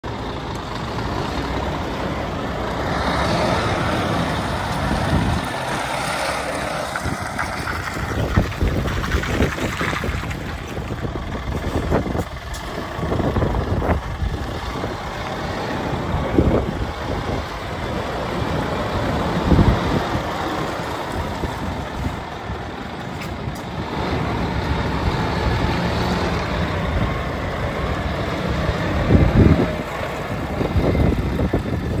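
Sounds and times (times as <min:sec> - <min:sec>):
vehicle engine rumble: 0:00.0 - 0:32.0
wind buffeting microphone: 0:03.5 - 0:32.0.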